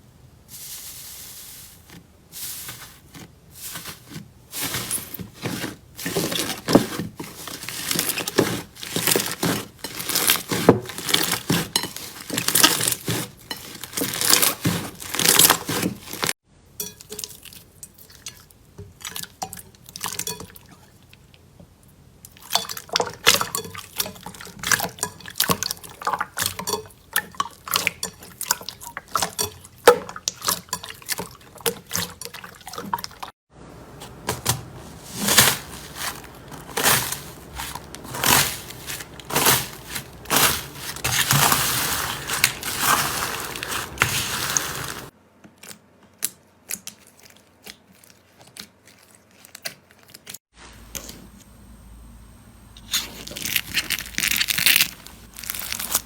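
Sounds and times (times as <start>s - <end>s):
slime squelching: 0.5s - 16.4s, 22.3s - 51.4s, 52.8s - 56.0s.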